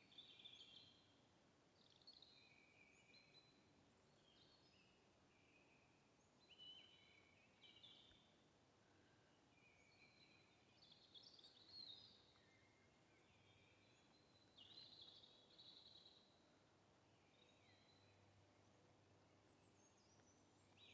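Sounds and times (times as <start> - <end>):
faint birdsong: 0.0 - 20.9.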